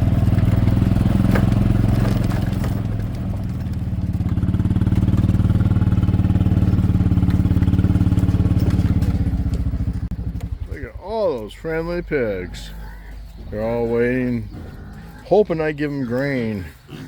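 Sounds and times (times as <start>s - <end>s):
car engine running: 0.0s - 16.4s.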